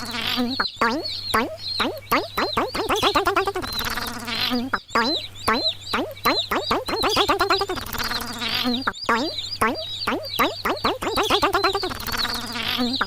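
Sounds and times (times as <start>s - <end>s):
quick squeaky warbling calls: 0.0s - 13.0s
steady low hum: 0.0s - 13.0s.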